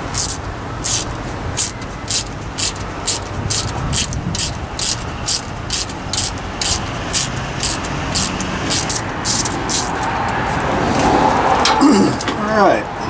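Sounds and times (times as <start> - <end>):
ratchet wrench clicking: 0.0 - 11.1.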